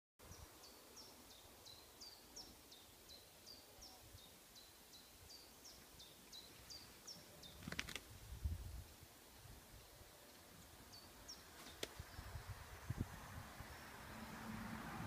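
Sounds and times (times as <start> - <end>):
outdoor background noise: 0.2 - 15.0.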